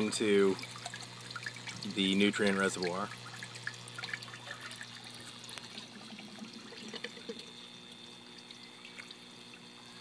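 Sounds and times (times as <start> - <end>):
water splashes and drips: 0.0 - 9.8
water trickling from drain pipe: 0.0 - 10.0.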